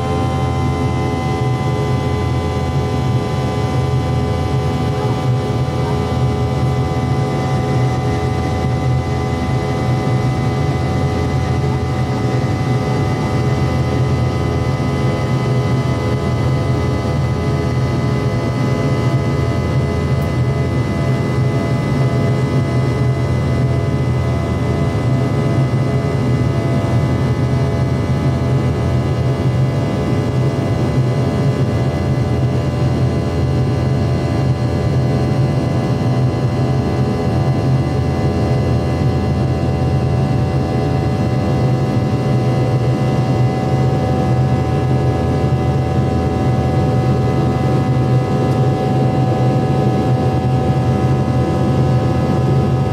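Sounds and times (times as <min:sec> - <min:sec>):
jet engines droning: 0:00.0 - 0:52.9.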